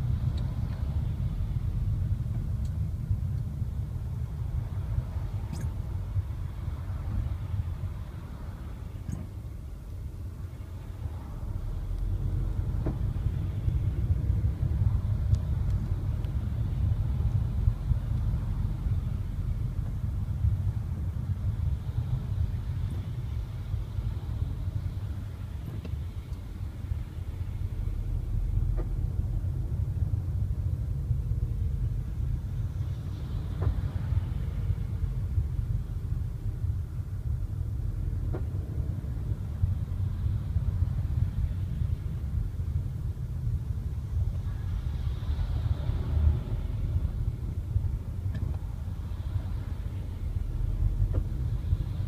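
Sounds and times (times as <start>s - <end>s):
car driving low rumble: 0.0s - 52.0s.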